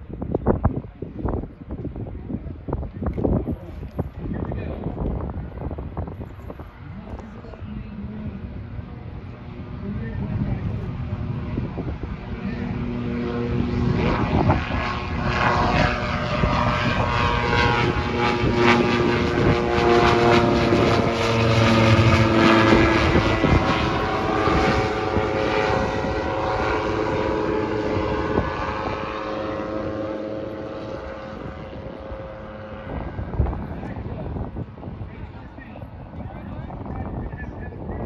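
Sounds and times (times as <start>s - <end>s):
light aircraft engine and propeller: 0.0s - 38.0s.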